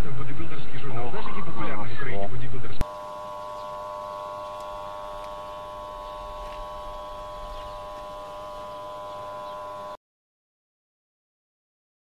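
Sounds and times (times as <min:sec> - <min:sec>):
steady hum over low rumble: 0:00.0 - 0:10.0.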